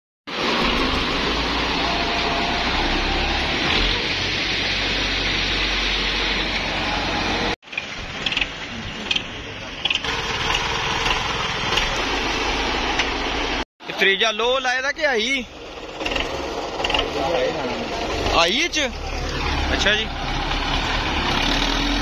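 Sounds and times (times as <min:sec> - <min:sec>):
tractor diesel engine running: 0:00.3 - 0:13.6, 0:14.4 - 0:22.0.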